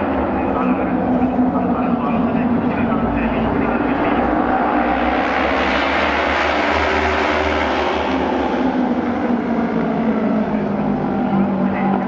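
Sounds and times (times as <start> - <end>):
racing motorcycles passing: 0.0 - 12.0.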